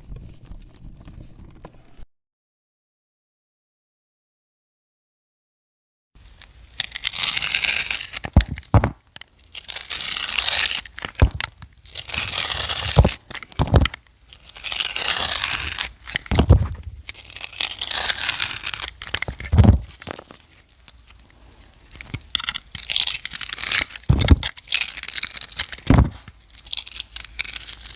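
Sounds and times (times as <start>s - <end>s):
crunching scraping strokes: 0.0s - 2.1s, 6.3s - 27.9s.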